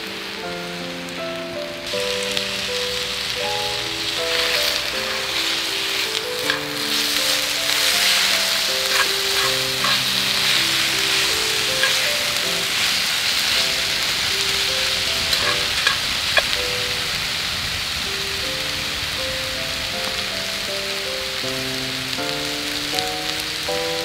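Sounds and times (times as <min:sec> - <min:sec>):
background music of held notes: 0:00.0 - 0:24.0
food sizzling in frying pan: 0:00.1 - 0:24.0.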